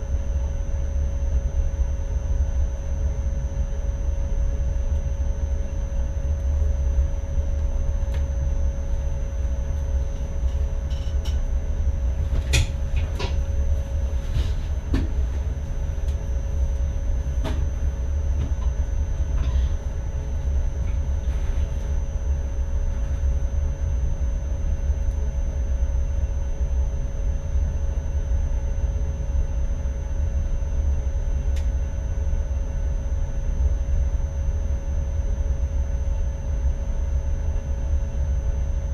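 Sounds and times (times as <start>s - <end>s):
train low rumble: 0.0s - 38.9s.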